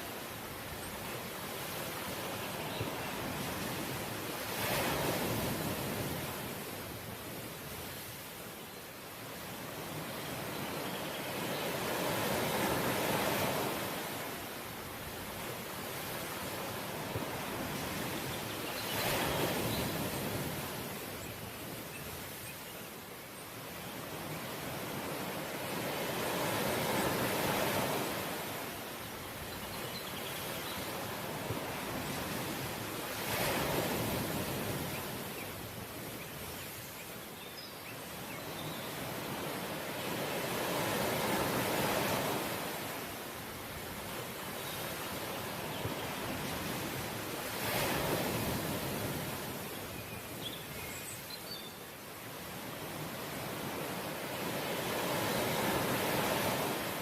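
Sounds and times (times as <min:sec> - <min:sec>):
sea waves washing on shore: 0:00.0 - 0:37.4, 0:38.0 - 0:51.3, 0:51.9 - 0:57.0.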